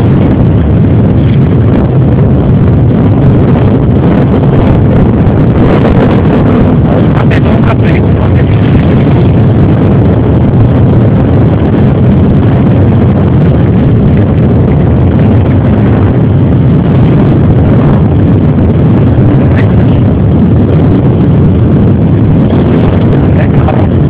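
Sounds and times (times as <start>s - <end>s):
motorcycle engines rumbling: 0.0s - 24.0s.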